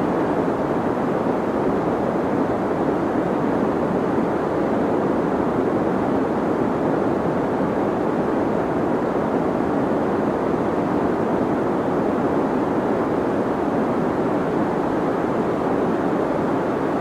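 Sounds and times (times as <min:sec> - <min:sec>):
deep white noise: 0:00.0 - 0:17.0.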